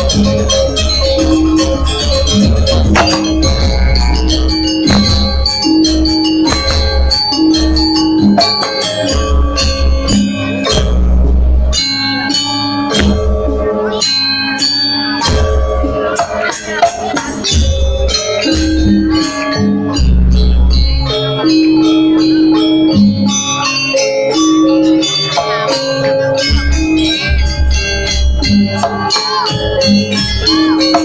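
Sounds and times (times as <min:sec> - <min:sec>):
gamelan music: 0:00.0 - 0:31.0
struck metallophone notes: 0:00.0 - 0:31.0.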